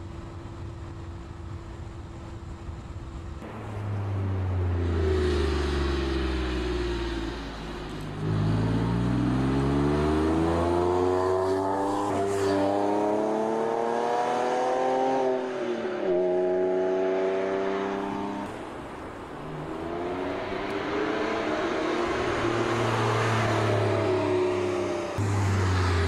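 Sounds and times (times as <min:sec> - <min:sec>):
car engine accelerating: 0:03.4 - 0:26.0.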